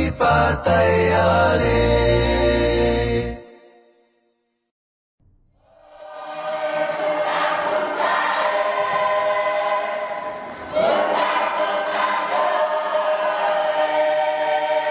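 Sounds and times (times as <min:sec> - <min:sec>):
choir singing held chords: 0:00.0 - 0:03.9, 0:05.6 - 0:14.9.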